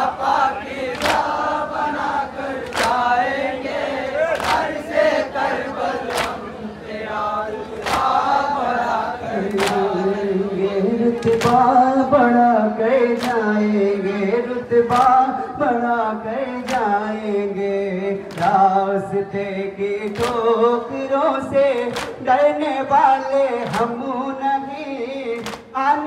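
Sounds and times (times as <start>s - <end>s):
men chanting over a microphone: 0.0s - 26.0s.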